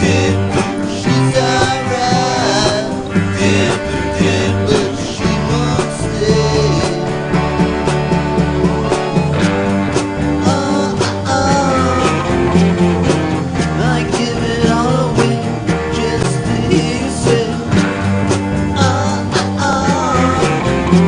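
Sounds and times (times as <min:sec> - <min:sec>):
rock song with singing: 0:00.0 - 0:21.0.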